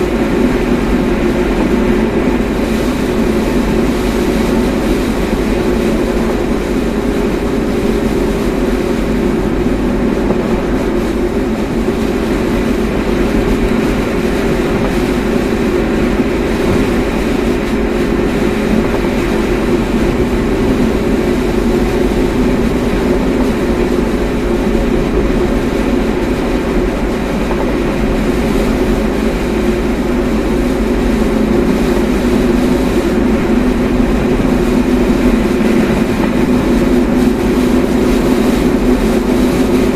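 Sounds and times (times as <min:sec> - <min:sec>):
car cabin road and engine drone: 0:00.0 - 0:39.9.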